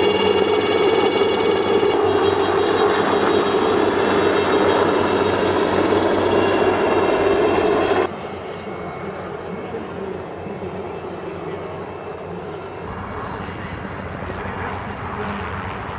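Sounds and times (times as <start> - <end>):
helicopter rotor noise: 0.0 - 15.9
high turbine engine whine: 0.0 - 15.9.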